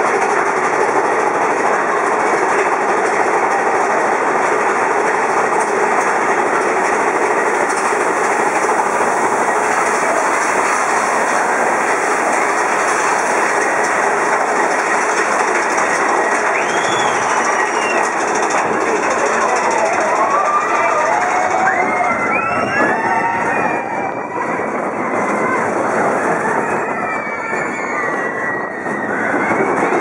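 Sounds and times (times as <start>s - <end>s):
rattling cars: 0.0s - 28.2s
roller coaster wheels on rail: 0.0s - 30.0s.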